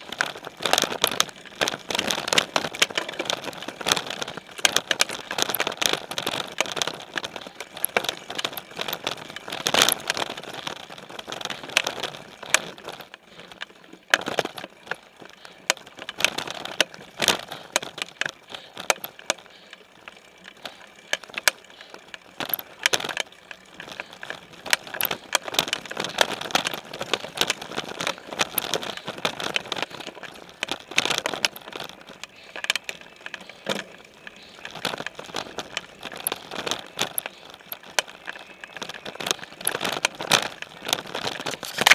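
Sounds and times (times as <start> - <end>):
bike rattling on rough trail: 0.0 - 41.9
tyres crunching on gravel: 0.0 - 41.9.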